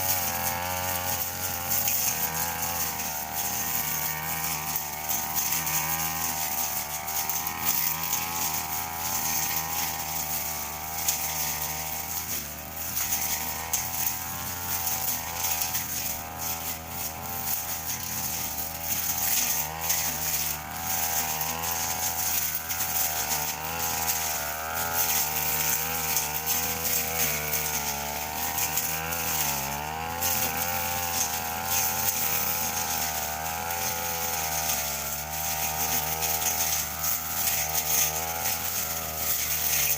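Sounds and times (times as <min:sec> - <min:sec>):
brush cutter cutting grass: 0:00.0 - 0:39.9.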